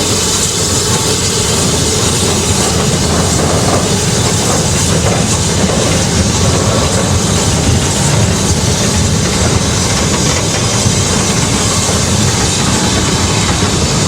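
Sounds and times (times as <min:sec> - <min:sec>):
steam noise: 0:00.0 - 0:14.0
train wheels rushing on track: 0:00.0 - 0:14.0.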